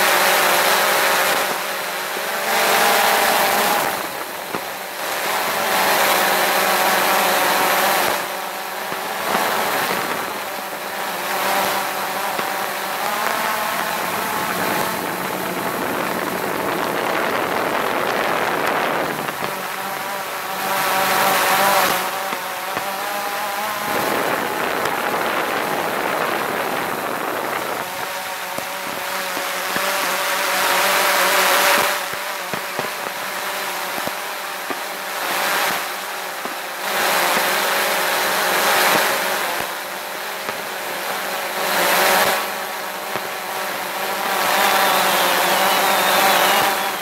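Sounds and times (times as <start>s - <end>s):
drone propellers whining: 0.0s - 39.6s, 40.4s - 47.0s.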